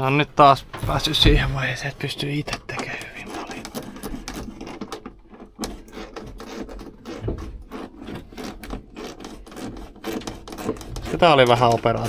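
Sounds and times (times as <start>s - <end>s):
clicks and knocks of parts: 0.6s - 12.0s.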